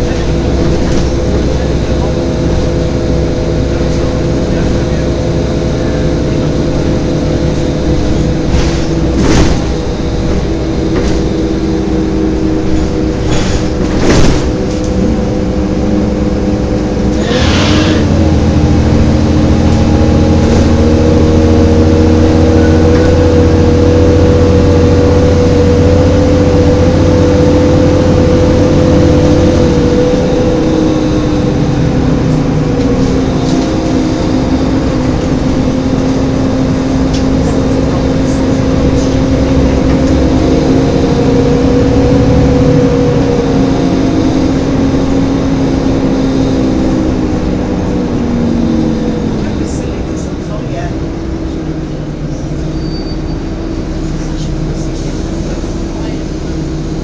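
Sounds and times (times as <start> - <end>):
bus diesel engine running: 0.0 - 57.0
steady whine: 0.0 - 57.0.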